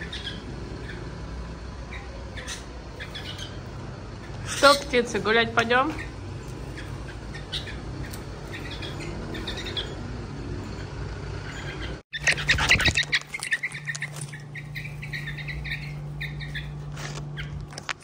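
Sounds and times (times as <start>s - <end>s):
birds chirping and squawking: 0.0s - 18.0s.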